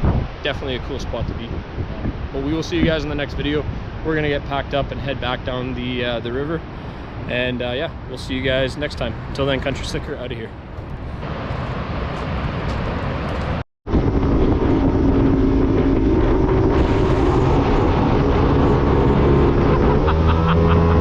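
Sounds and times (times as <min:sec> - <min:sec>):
jet boat engine running: 0:00.0 - 0:21.0
wind on microphone: 0:00.0 - 0:21.0.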